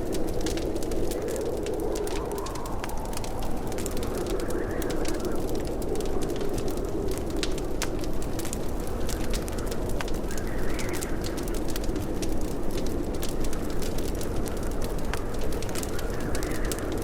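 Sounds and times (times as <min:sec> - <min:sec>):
low rush of burning: 0:00.0 - 0:17.0
sharp pops of fire: 0:00.0 - 0:17.0
wood fire crackling: 0:00.0 - 0:17.0.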